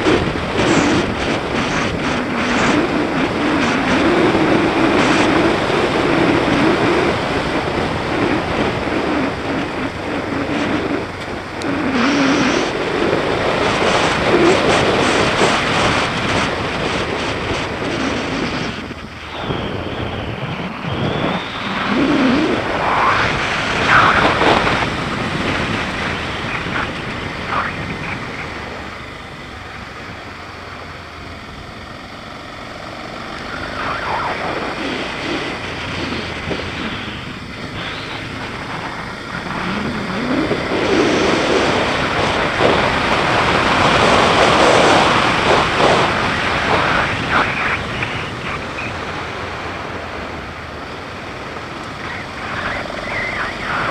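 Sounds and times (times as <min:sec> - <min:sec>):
motorcycle engine running: 0:00.0 - 0:53.9
wind and road rush on microphone: 0:00.0 - 0:53.9.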